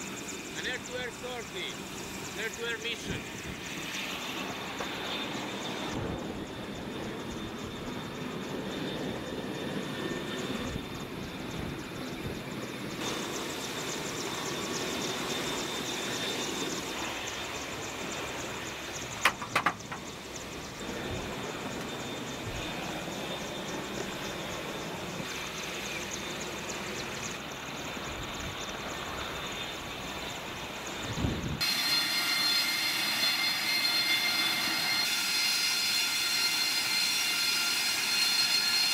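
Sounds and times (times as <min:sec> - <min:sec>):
high engine whine: 0:00.0 - 0:38.9
jet engine roaring: 0:00.0 - 0:38.9.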